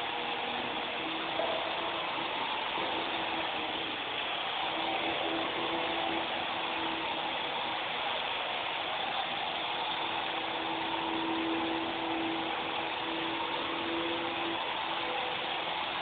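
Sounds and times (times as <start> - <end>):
toy helicopter rotor whirring: 0.0 - 16.0.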